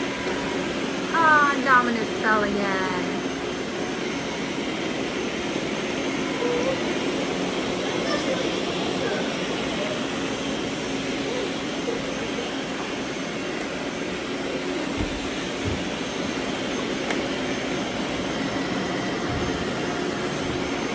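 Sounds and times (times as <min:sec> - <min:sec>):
robot vacuums whirring: 0:00.0 - 0:20.9.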